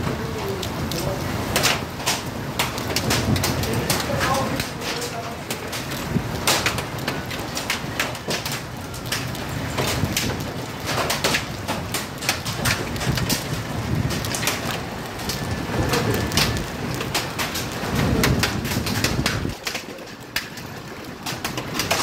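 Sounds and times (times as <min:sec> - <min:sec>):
raindrops tapping hard surfaces: 0:00.0 - 0:22.0
steady rain falling: 0:00.0 - 0:22.0.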